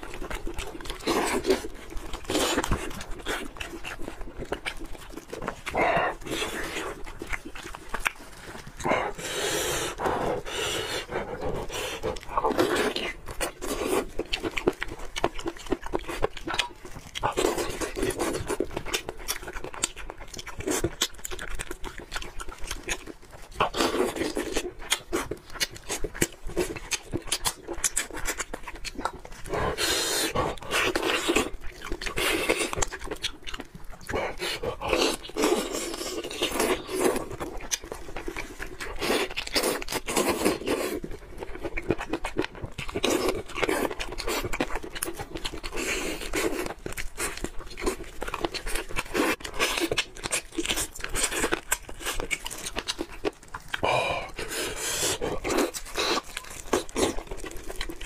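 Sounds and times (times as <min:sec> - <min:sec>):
wet chewing and smacking: 0:00.0 - 0:58.0.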